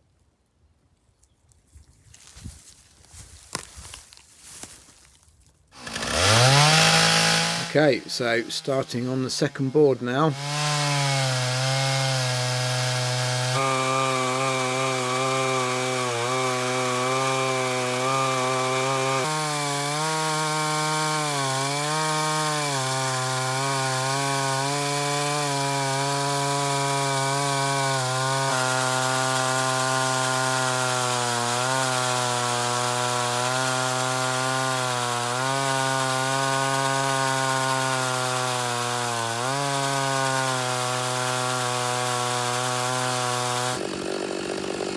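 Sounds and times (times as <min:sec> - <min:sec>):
chainsaw cutting log: 0:05.8 - 0:44.9.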